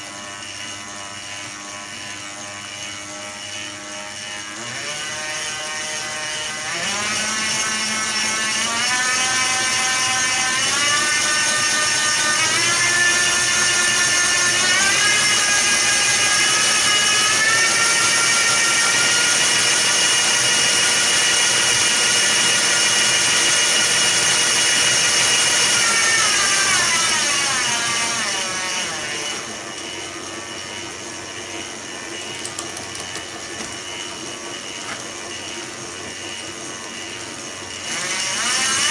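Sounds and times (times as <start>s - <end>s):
electric bike motor whine: 0.0s - 38.9s.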